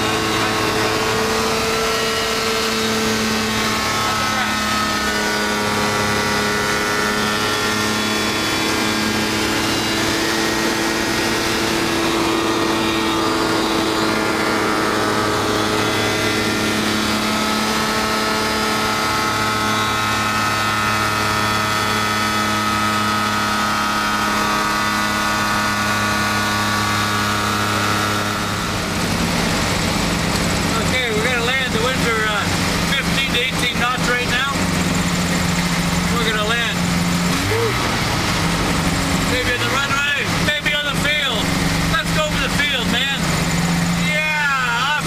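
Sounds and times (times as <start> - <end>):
light aircraft engine and propeller: 0.0 - 45.0.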